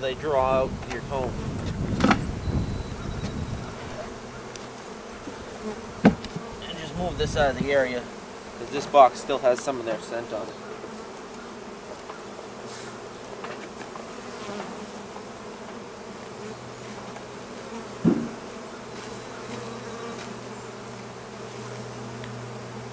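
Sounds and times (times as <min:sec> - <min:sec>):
honeybees buzzing: 0:00.0 - 0:22.9.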